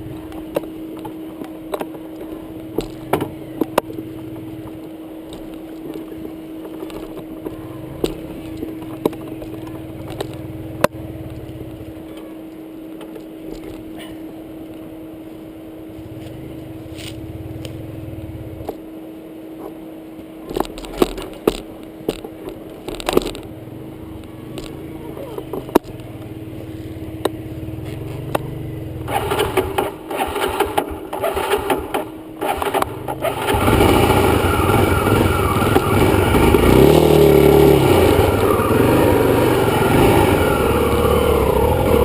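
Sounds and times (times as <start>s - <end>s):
dirt bike engine hum: 0.0s - 42.0s.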